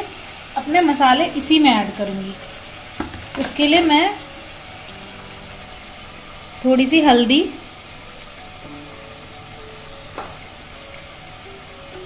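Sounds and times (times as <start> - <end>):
masala sizzling in a pan: 0.0 - 12.0
faint background music: 0.1 - 12.0.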